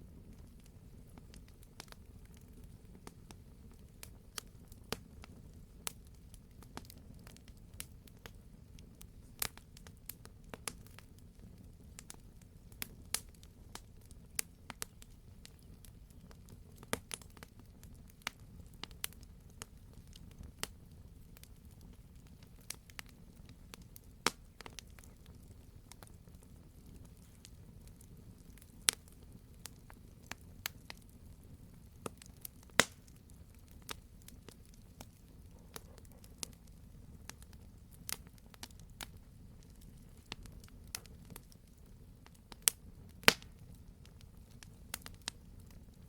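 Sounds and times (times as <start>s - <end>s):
burning logs crackling and popping: 0.0s - 46.0s
low rumble of flame: 0.0s - 46.0s.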